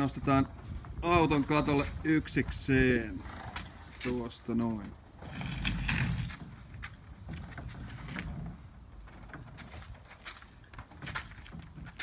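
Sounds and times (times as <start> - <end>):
boat knocking and scraping: 0.0 - 12.0.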